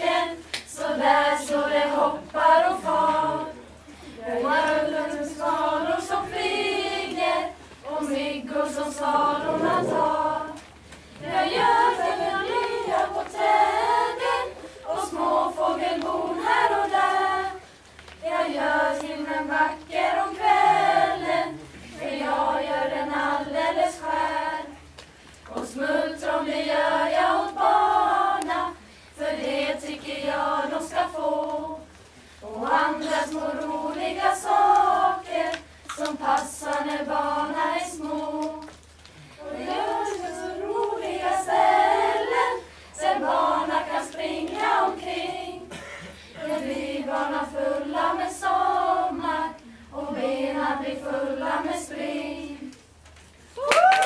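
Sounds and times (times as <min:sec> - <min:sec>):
girls choir singing: 0:00.0 - 0:24.9, 0:25.5 - 0:38.7, 0:39.4 - 0:52.8.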